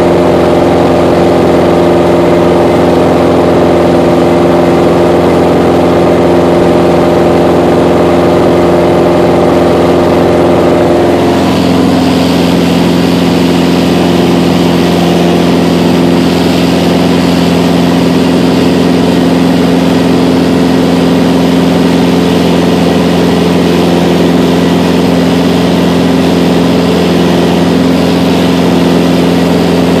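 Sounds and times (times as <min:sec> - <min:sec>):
aircraft engine and propeller: 0:00.0 - 0:30.0.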